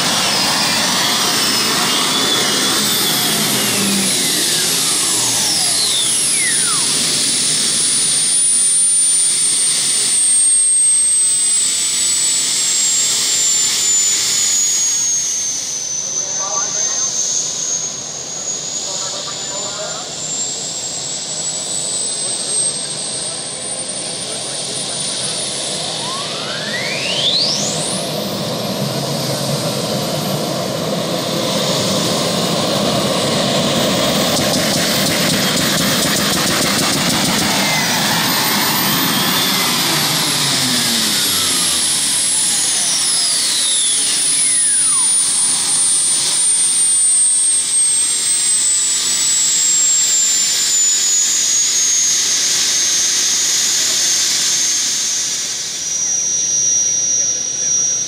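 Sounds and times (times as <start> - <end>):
tractor engine whining at full power: 0.0 - 58.0.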